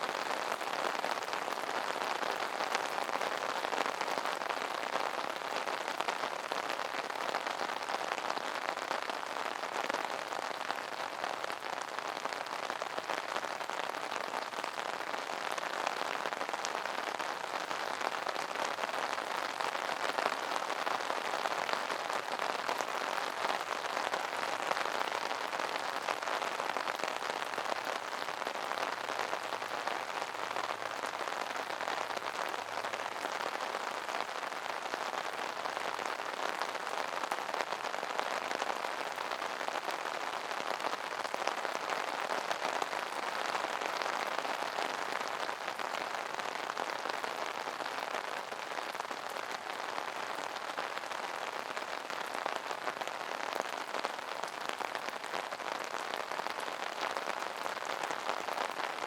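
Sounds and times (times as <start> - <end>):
rain pattering on umbrella: 0.0 - 59.0.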